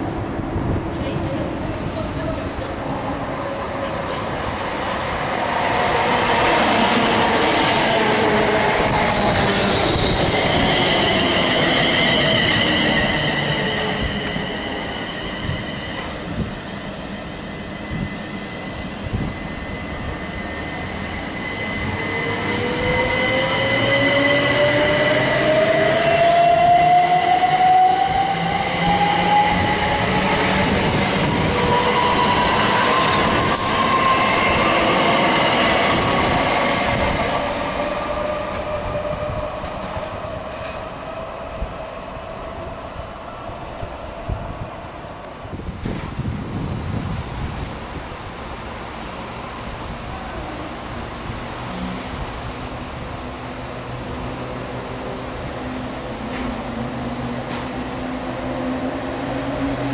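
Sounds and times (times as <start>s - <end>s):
train wheel and rail rumble: 0.0s - 59.9s.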